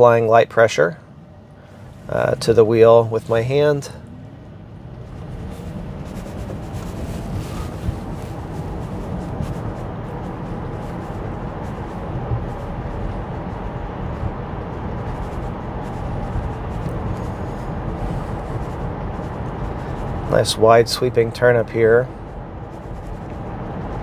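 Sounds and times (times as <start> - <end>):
road and tyre noise in car: 0.0 - 24.0.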